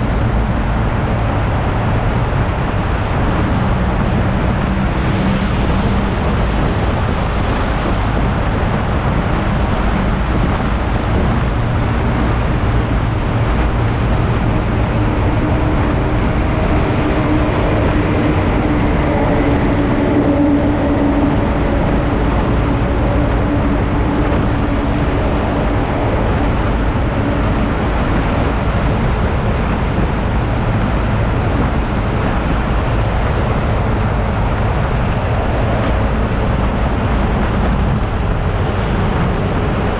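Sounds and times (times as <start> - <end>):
motorcycle road noise: 0.0 - 39.9
wind rushing: 0.0 - 39.9.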